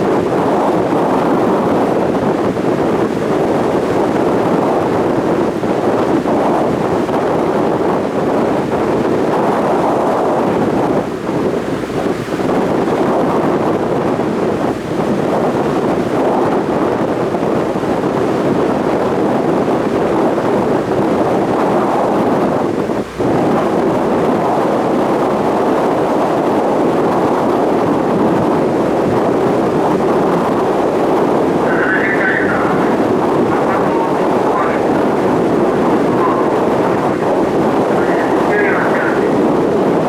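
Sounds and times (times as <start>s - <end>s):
boat running on water: 0.0s - 40.0s
wind on microphone: 0.0s - 40.0s.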